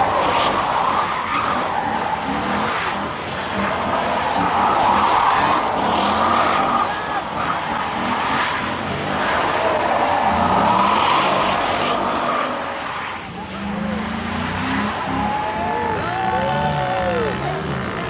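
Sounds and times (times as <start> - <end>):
car engine revving: 0.0 - 18.0
car tyres squealing: 0.0 - 18.0.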